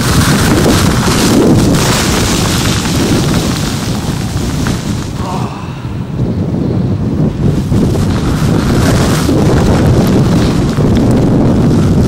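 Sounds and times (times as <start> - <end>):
wind buffeting microphone: 0.0 - 12.0
wind-blown sand hissing: 0.0 - 12.0.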